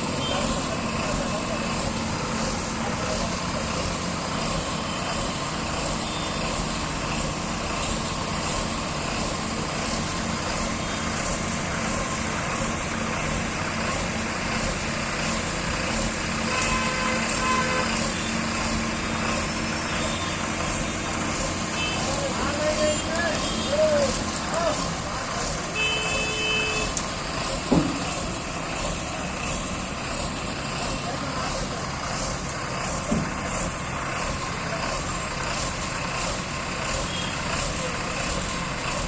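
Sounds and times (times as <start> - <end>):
heavy machinery engine running: 0.0 - 39.0.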